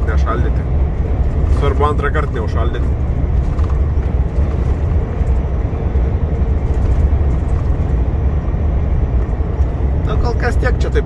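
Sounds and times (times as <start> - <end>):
truck cab engine and road drone: 0.0 - 11.0.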